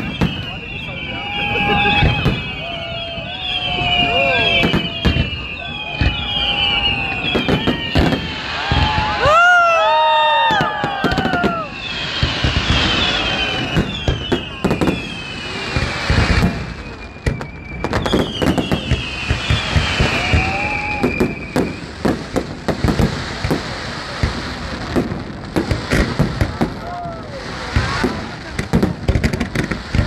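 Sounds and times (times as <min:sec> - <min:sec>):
fireworks bangs and crackling: 0:00.0 - 0:30.0
whistling firework shells: 0:00.0 - 0:30.0.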